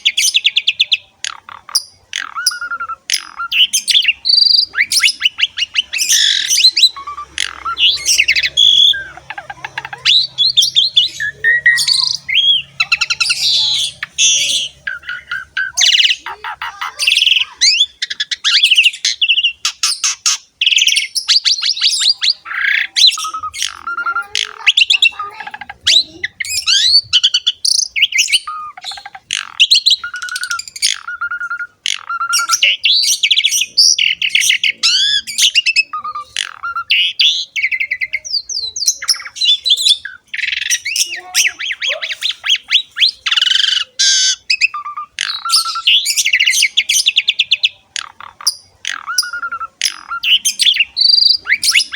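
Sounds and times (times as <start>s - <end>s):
starling singing: 0.0s - 51.9s.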